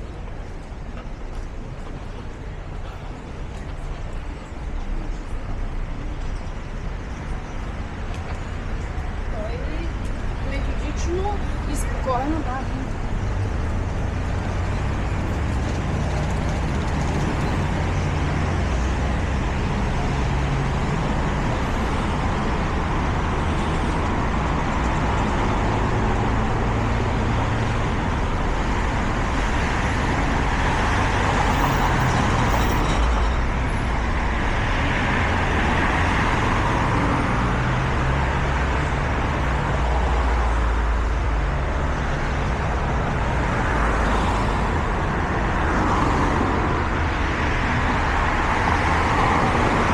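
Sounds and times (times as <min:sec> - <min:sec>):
car engines: 0:00.0 - 0:49.9.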